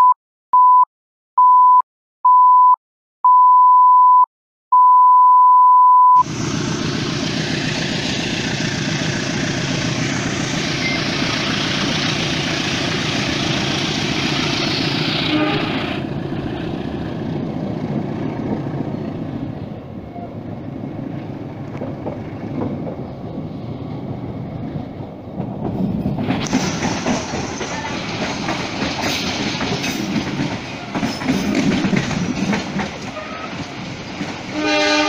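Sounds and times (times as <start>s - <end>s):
train rumbling on rails: 6.2s - 35.0s.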